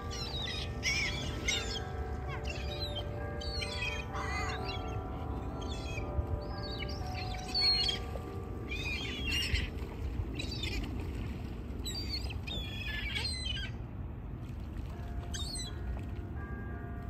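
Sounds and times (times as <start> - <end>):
faint church bells: 0.0 - 11.7, 13.9 - 17.0
gulls calling: 0.0 - 13.8, 15.0 - 17.0.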